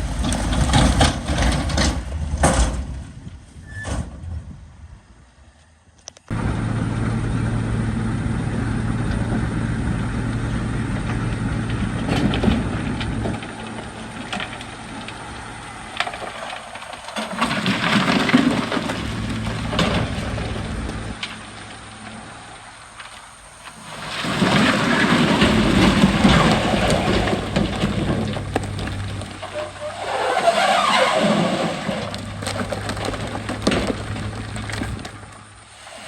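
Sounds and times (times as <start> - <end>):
heavy diesel engine running: 0.0 - 2.6, 6.3 - 35.7.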